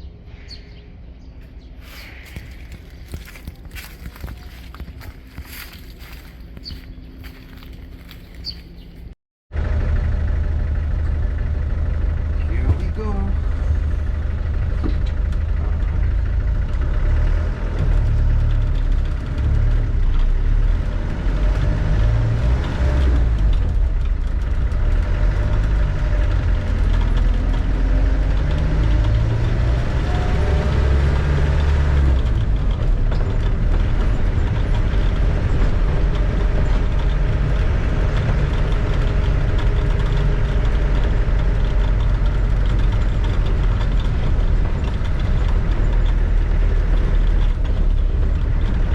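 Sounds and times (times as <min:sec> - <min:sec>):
deep engine rumble driving: 0:00.0 - 0:48.9.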